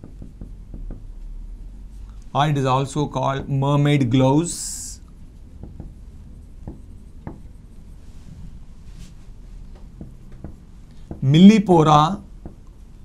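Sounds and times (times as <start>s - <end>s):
marker writing on whiteboard: 0.0s - 1.7s, 4.1s - 13.0s.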